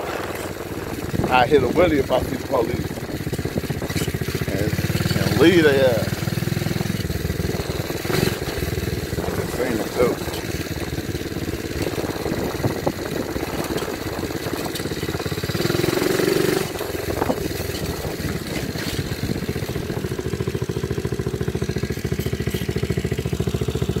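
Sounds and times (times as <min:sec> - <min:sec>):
dirt bike engine idling: 0:00.0 - 0:24.0.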